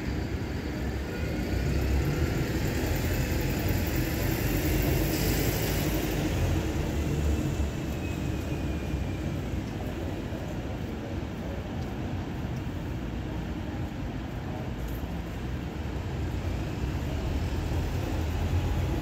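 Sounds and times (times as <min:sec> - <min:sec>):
car engines rumbling in traffic: 0:00.0 - 0:19.0.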